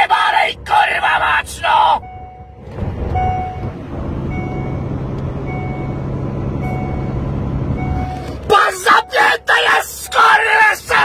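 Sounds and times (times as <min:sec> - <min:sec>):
diesel engine drone: 0:00.0 - 0:11.0
seatbelt warning chime beeping: 0:02.0 - 0:11.0.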